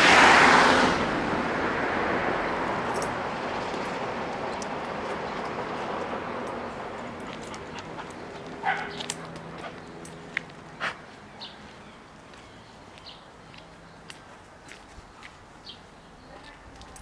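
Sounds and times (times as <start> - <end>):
car passing: 0.0 - 16.2.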